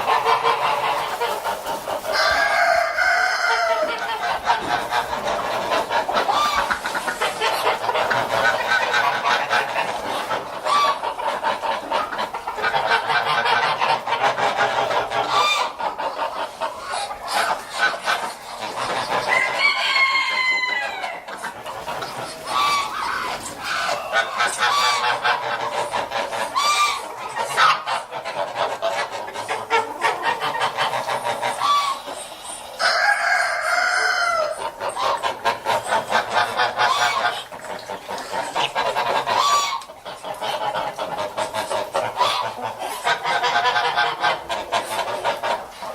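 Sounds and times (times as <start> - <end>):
geese honking: 0.0 - 45.9.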